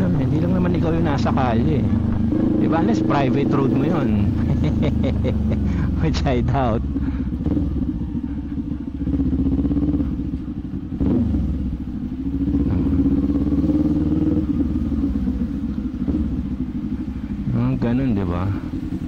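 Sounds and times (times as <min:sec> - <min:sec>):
motorcycle engine and exhaust: 0:00.0 - 0:19.0.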